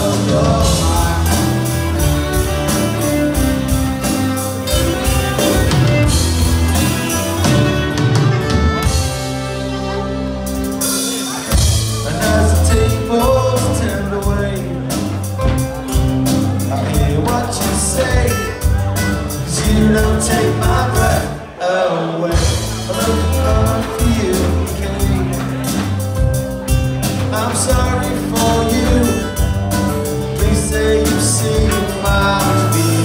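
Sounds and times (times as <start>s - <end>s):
folk-punk band playing loudly: 0.0s - 33.0s.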